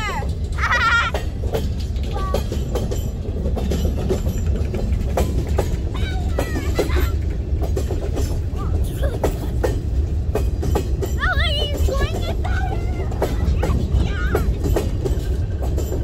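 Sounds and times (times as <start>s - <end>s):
freight train rumbling past: 0.0s - 16.0s
wheels clacking on rails: 0.0s - 16.0s.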